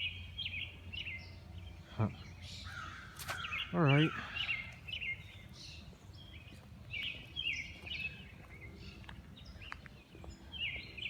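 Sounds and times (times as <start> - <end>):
songbird high chirps: 0.0 - 11.0.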